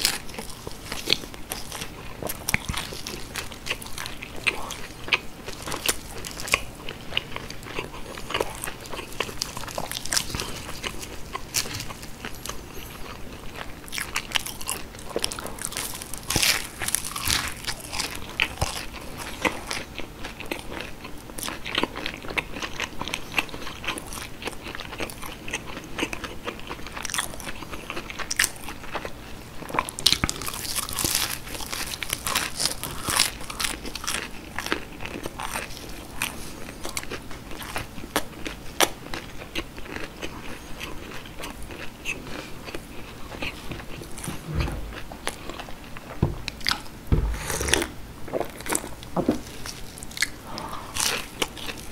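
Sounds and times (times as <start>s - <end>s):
crunchy food chewing: 0.0s - 51.9s.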